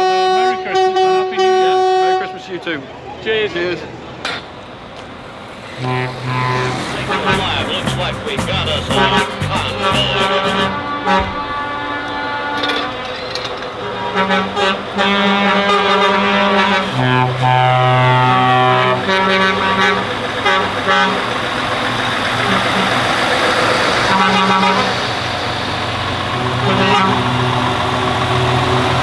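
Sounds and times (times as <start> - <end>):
truck air horns: 0.0 - 2.4, 4.3 - 29.0
heavy diesel engines running: 3.9 - 29.0.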